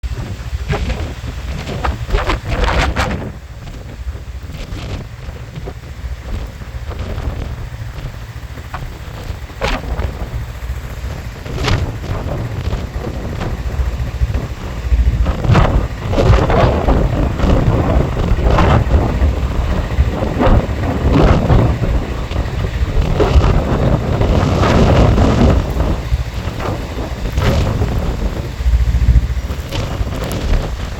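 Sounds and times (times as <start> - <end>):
gusty wind buffeting microphone: 0.0 - 30.9.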